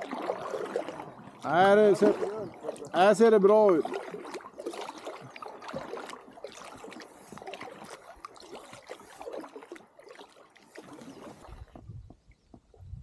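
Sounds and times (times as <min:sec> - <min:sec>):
water lapping against raft: 0:00.0 - 0:13.0.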